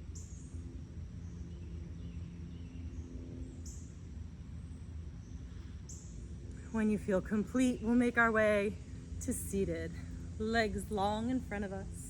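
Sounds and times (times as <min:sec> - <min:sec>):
faint hum: 0:00.0 - 0:12.0
steady low rumble: 0:00.0 - 0:12.0.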